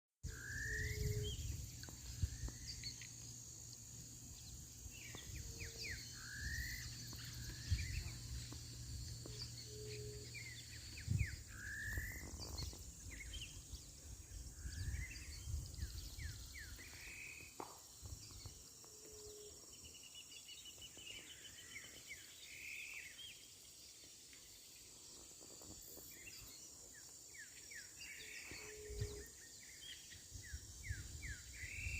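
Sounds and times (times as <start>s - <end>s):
birds chirping: 0.2s - 31.9s
high insect drone: 0.3s - 31.9s.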